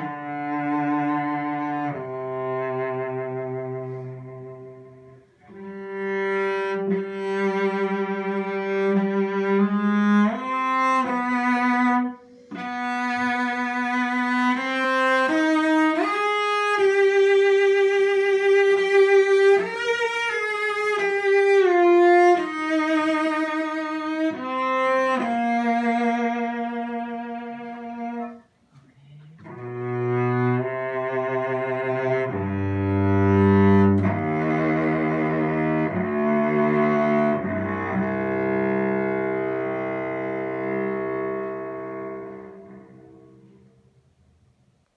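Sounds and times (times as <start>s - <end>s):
bowed cello melody: 0.0s - 44.0s.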